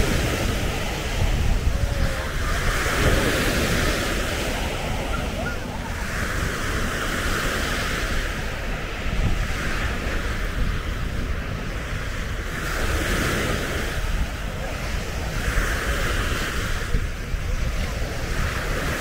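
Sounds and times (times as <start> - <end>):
sea waves washing on beach: 0.0 - 19.0
wind rumbling on microphone: 0.0 - 19.0.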